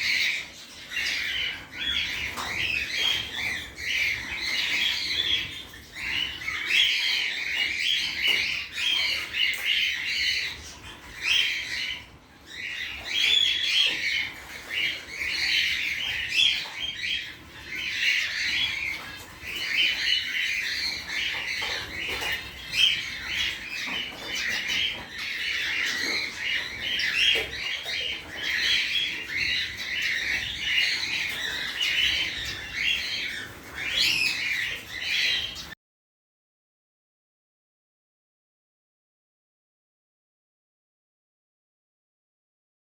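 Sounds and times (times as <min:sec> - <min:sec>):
finches chirping and twittering: 0:00.0 - 0:35.8.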